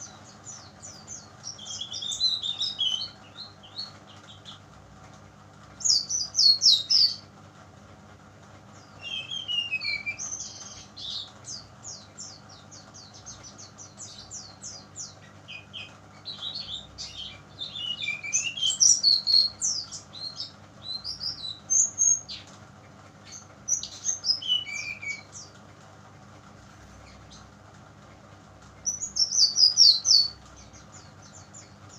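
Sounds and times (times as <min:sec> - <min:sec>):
bird chirping song: 0:00.0 - 0:04.7, 0:05.8 - 0:07.3, 0:08.6 - 0:25.6, 0:26.8 - 0:27.5, 0:28.8 - 0:31.9.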